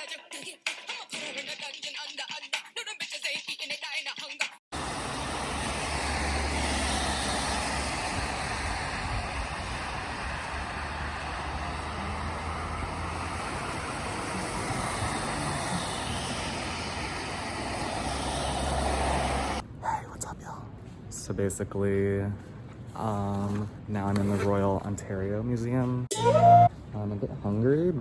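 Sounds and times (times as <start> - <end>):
road traffic rumble and hiss: 4.7 - 28.0.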